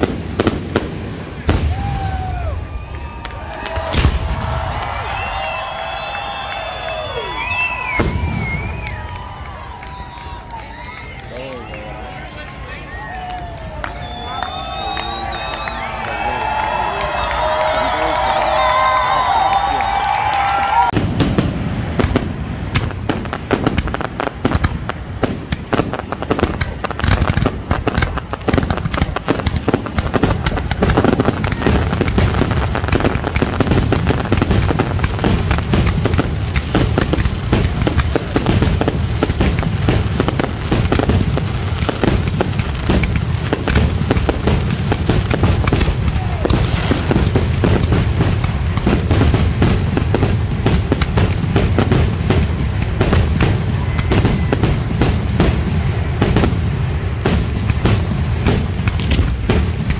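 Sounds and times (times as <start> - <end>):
fireworks bangs: 0.0 - 59.9
fireworks crackling: 0.0 - 59.9.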